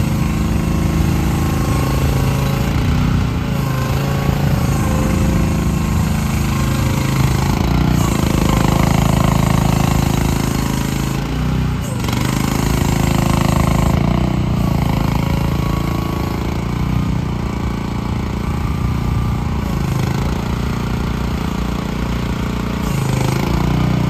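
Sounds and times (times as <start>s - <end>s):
mini excavator engine running: 0.0s - 24.0s.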